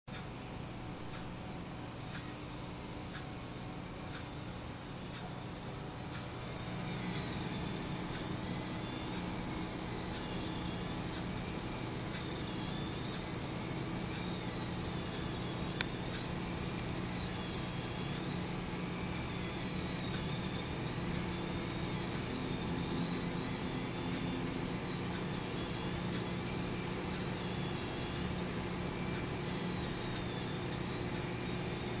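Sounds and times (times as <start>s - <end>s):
power supply high whine: 0.1s - 32.0s
steady low hum: 0.1s - 32.0s.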